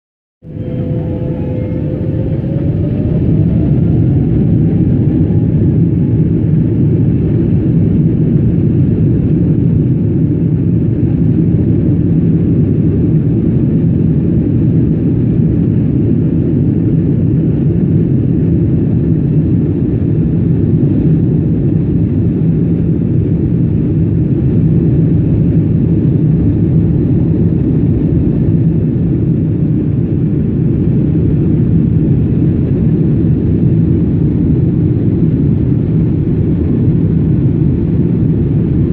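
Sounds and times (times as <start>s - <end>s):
airliner cabin engine rumble: 0.4s - 38.9s.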